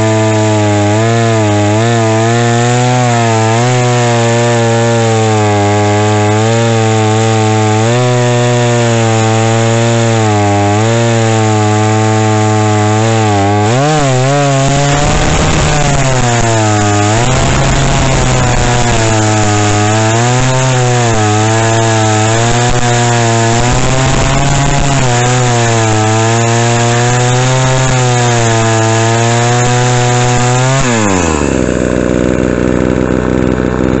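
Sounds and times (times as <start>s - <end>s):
chainsaw engine revving and idling: 0.0s - 34.0s.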